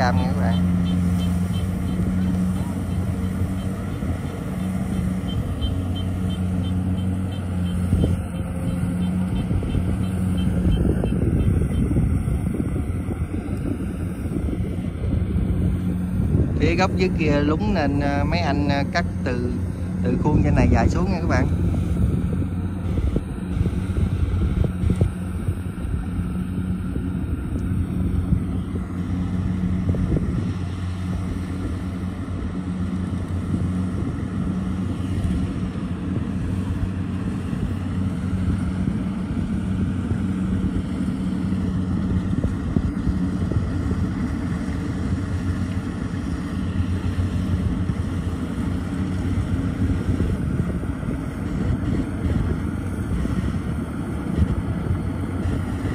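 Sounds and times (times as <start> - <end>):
diesel engines running under load: 0.0 - 55.9.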